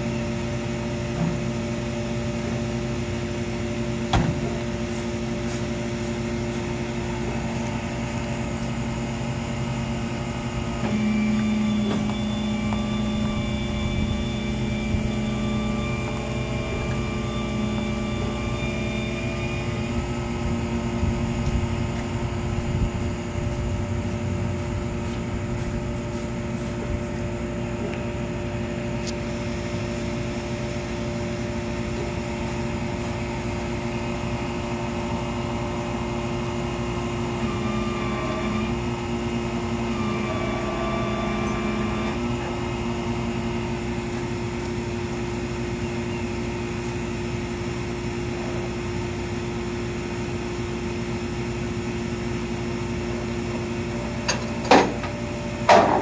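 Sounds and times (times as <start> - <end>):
engine humming: 0.0 - 56.0
high whine: 1.9 - 56.0.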